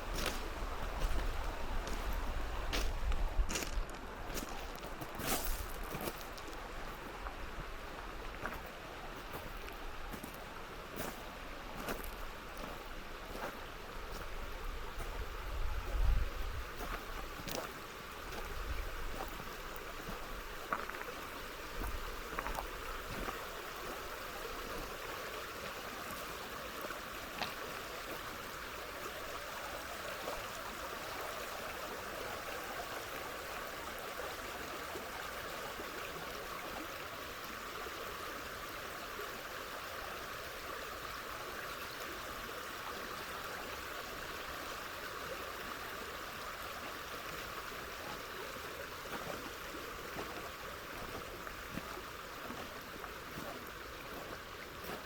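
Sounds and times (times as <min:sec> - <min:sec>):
river water rushing: 0:00.0 - 0:15.6, 0:16.5 - 0:55.0.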